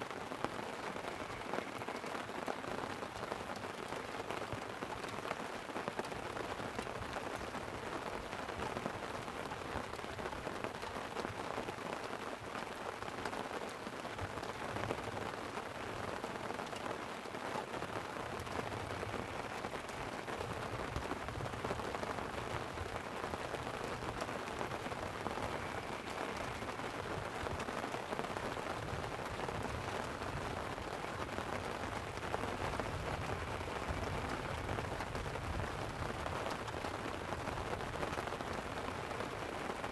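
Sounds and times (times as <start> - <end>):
light rain pattering on a tent: 0.0 - 39.9.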